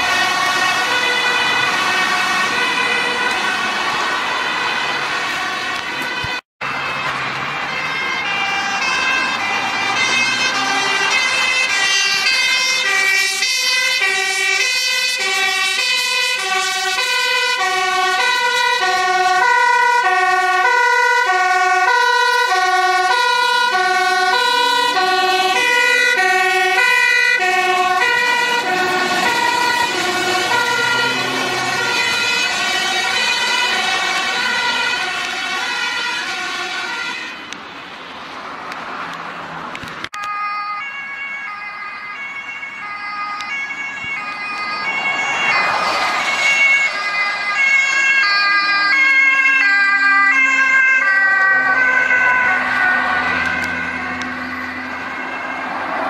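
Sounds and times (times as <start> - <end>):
truck engines and tyres: 0.0 - 56.0
two-tone sirens wailing: 0.0 - 56.0.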